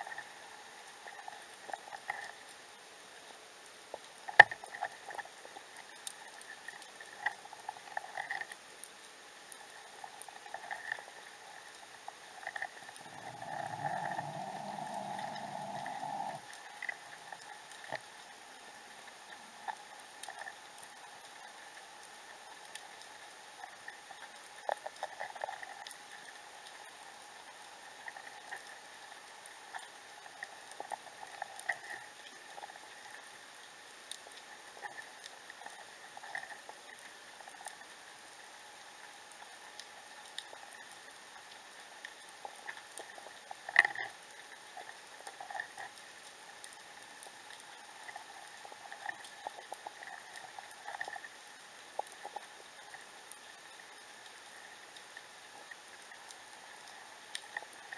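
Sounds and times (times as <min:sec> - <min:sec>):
steady underwater hiss: 0:00.0 - 0:57.9
underwater clicks and crackles: 0:00.0 - 0:57.9.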